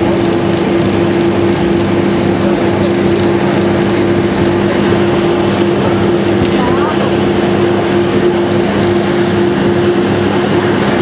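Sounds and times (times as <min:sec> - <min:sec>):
diesel engine drone: 0:00.0 - 0:11.0
train running noise: 0:00.0 - 0:11.0.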